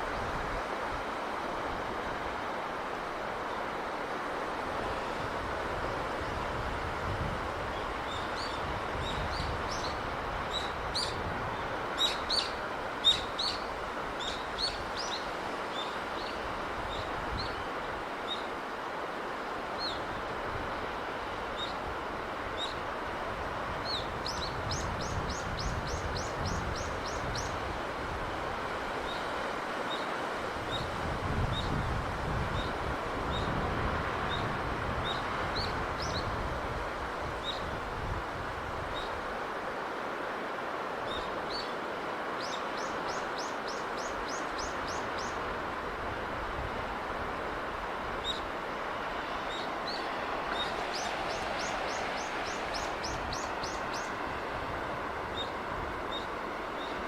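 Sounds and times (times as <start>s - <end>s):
sea breeze: 0.0s - 57.0s
surf: 0.0s - 57.0s.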